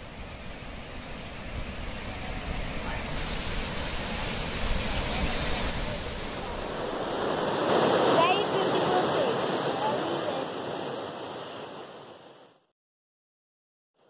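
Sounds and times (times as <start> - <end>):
rushing water: 0.0 - 12.3.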